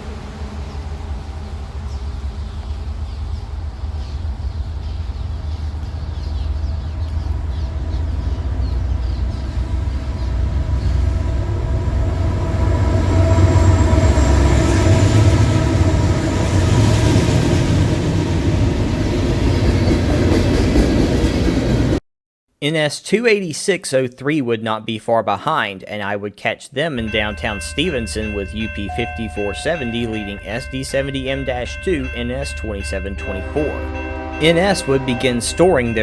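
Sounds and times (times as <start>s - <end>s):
diesel locomotive rumble: 0.0s - 22.0s, 27.0s - 36.0s
train rolling: 0.0s - 22.0s, 27.0s - 36.0s.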